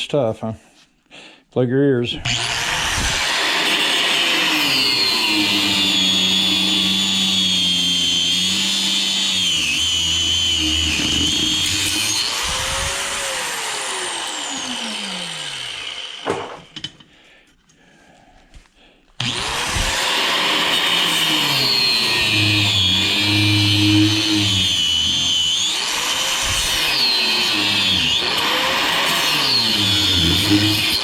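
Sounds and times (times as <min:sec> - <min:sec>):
angle grinder cutting steel: 0:02.2 - 0:17.0, 0:19.2 - 0:31.0.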